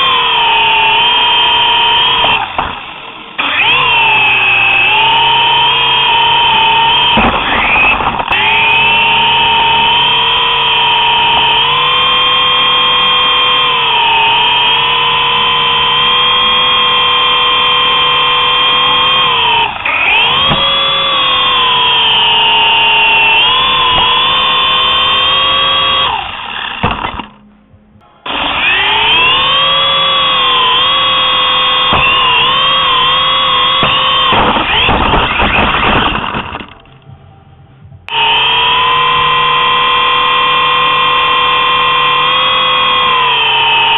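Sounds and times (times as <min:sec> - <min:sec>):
toy helicopter rotor motor whining: 0:00.0 - 0:27.4, 0:28.2 - 0:36.9, 0:38.1 - 0:43.9.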